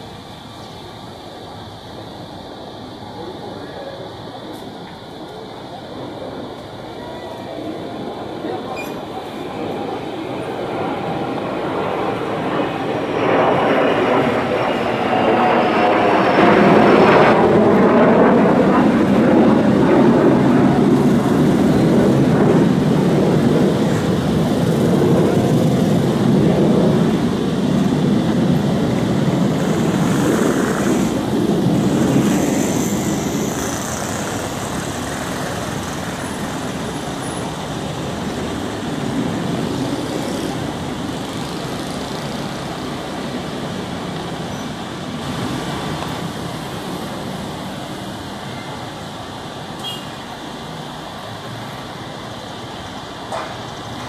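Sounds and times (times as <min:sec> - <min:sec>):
jet engines rumbling overhead: 0:00.0 - 0:54.0.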